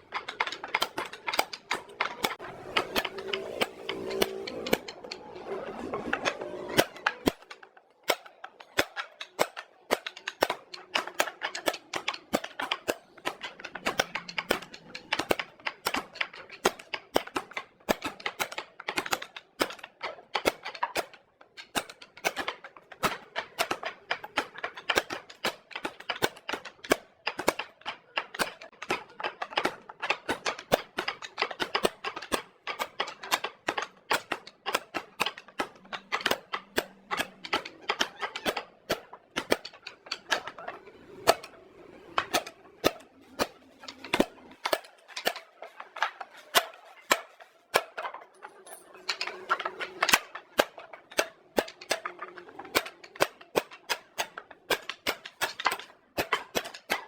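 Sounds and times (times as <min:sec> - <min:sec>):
sharp taps and knocks: 0:00.0 - 0:57.0.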